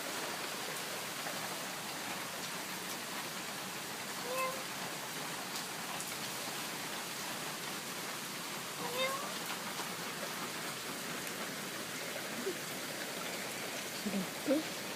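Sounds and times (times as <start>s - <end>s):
heavy rain hissing: 0.0s - 14.9s.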